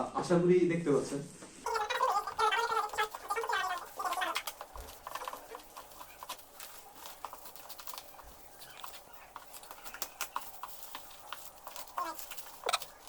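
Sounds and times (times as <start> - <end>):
packaging being handled and opened: 1.7 - 13.0.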